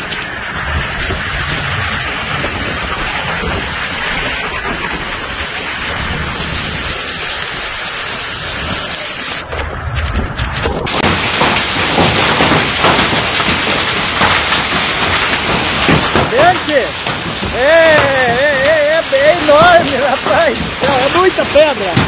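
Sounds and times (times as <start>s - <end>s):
roar of wind-driven rain: 0.0s - 22.0s
wind buffeting microphone: 0.0s - 22.0s.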